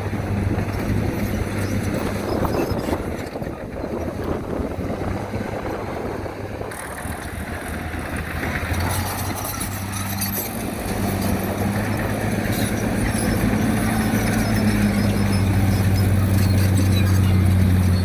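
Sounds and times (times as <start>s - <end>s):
diesel engine hum: 0.0s - 18.0s
rough crackling rumble: 0.0s - 18.0s.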